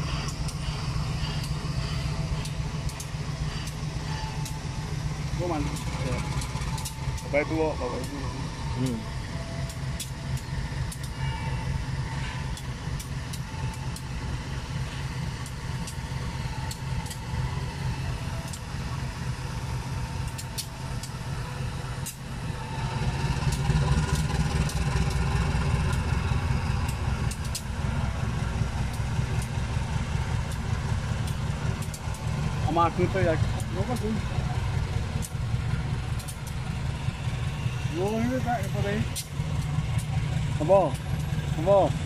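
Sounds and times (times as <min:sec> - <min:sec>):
locomotive engine rumble: 0:00.0 - 0:42.0.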